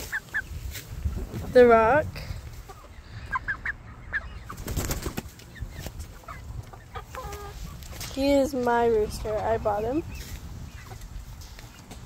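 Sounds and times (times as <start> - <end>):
young chickens clucking and peeping: 0.0 - 12.0.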